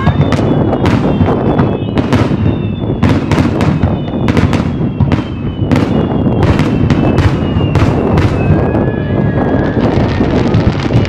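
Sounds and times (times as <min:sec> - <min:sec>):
firework whistles sliding down: 0:00.0 - 0:11.0.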